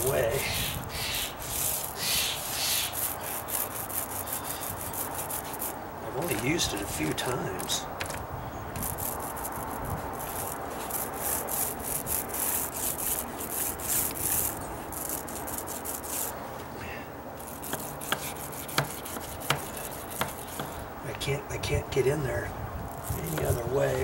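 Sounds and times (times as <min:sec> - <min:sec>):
paint roller rubbing on wood: 0:00.0 - 0:08.2, 0:08.8 - 0:16.4, 0:17.4 - 0:20.8, 0:23.0 - 0:24.0.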